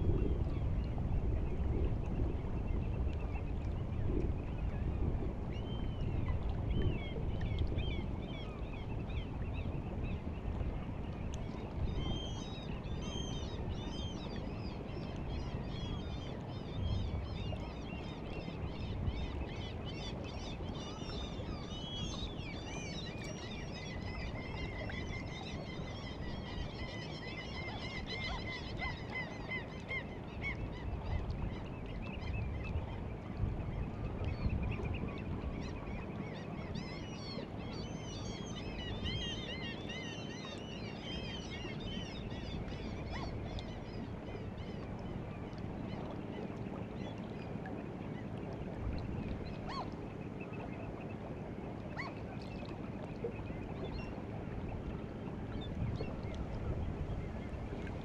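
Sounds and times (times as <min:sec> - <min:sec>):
sea water washing on shore: 0:00.0 - 0:58.0.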